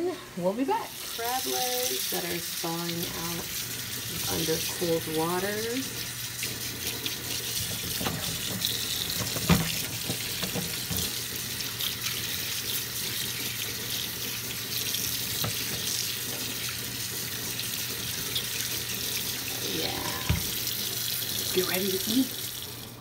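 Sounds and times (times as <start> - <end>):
tap water splashing in a sink: 1.0 - 23.0.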